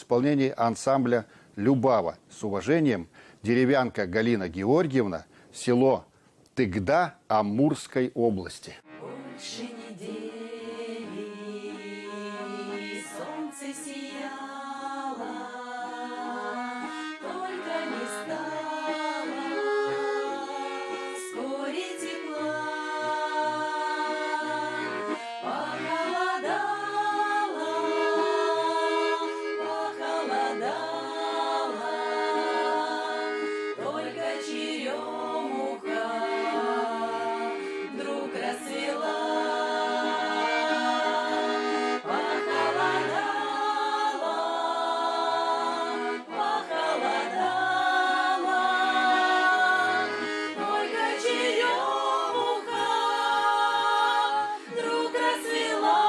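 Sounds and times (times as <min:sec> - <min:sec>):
accordion playing folk song: 0:08.8 - 0:56.0.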